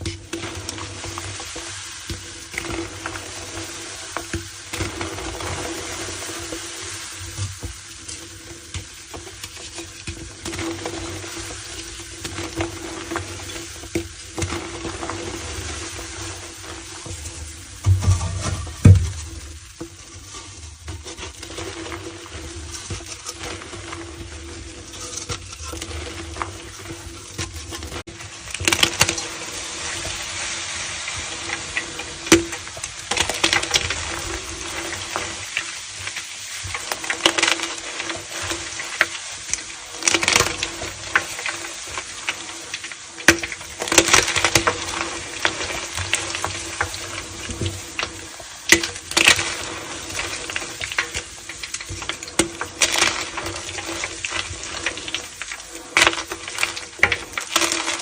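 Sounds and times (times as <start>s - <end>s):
crumbly material crunching: 10.4s - 58.0s.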